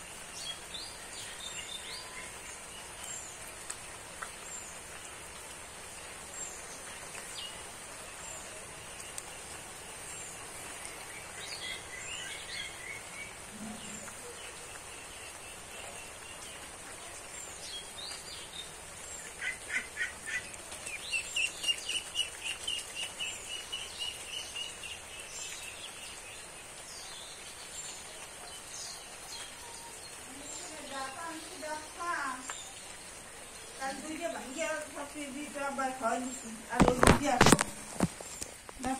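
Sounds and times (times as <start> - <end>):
songbirds chirping: 0.0 - 38.9
steady outdoor hiss: 0.0 - 38.9.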